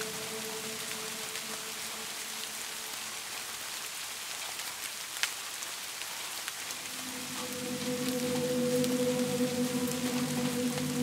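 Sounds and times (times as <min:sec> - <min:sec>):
raindrops ticking close by: 0:00.0 - 0:11.0
steady rain: 0:00.0 - 0:11.0.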